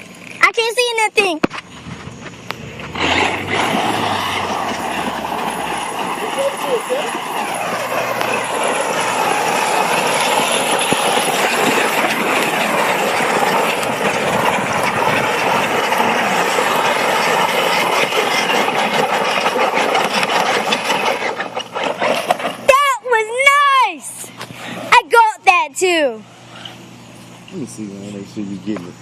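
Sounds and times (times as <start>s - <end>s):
tyre and road noise: 0.0s - 25.4s
rc car motor whine: 0.0s - 29.0s.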